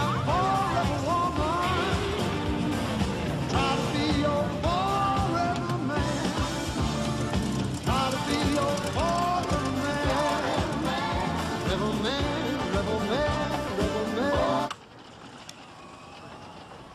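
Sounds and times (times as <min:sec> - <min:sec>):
steady drum beat: 0:00.0 - 0:14.6.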